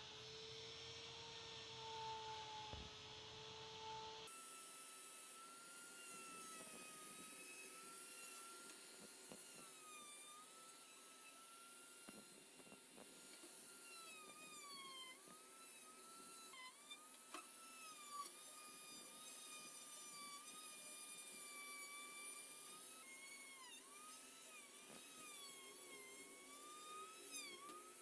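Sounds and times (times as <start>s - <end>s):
rotary tool grinding steel: 0.0s - 28.0s.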